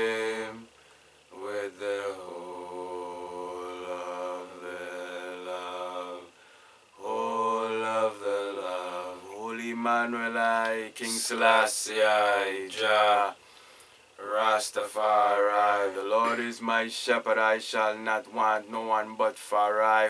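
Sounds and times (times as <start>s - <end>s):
man chanting a prayer: 1.4s - 6.3s, 7.0s - 13.4s, 14.2s - 20.0s.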